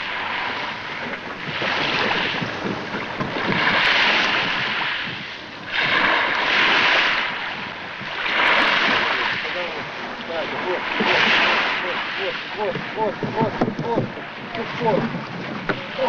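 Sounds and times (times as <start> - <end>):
sea water washing and splashing: 0.0 - 16.0.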